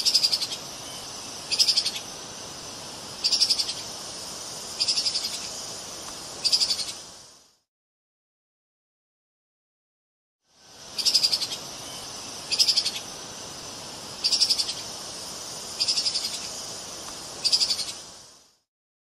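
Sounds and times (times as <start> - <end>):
steady high hiss: 0.0 - 7.7, 10.4 - 18.7.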